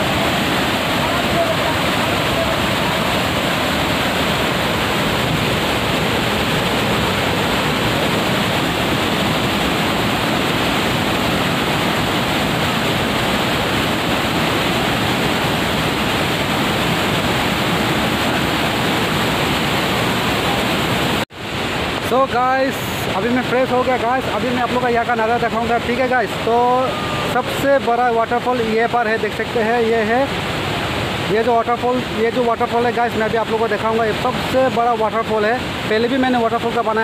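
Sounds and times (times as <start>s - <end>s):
stream rushing: 0.0s - 37.0s
waterfall rushing: 0.0s - 37.0s.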